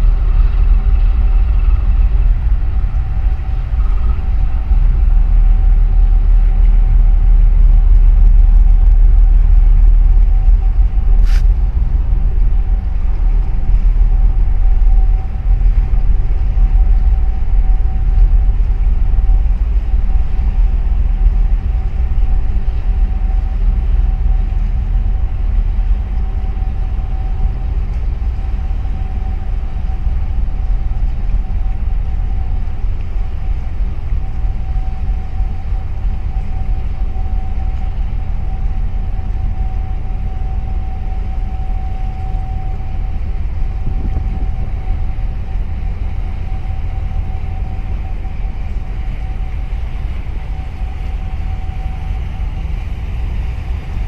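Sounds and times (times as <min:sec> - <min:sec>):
boat engine rumble: 0:00.0 - 0:54.0
thin steady whine: 0:00.0 - 0:54.0.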